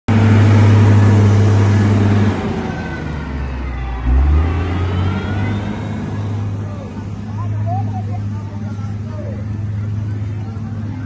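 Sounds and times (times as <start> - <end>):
diesel engine drone: 0.1 - 11.0.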